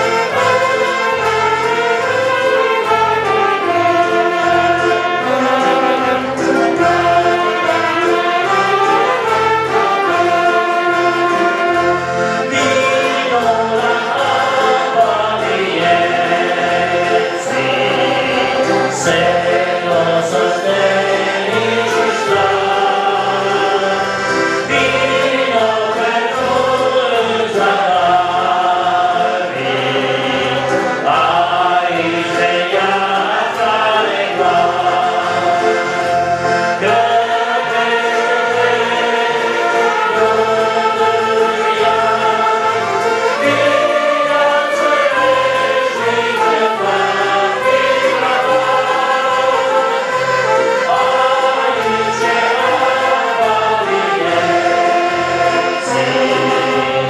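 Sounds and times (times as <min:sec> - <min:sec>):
orchestra playing a hymn: 0:00.0 - 0:57.0.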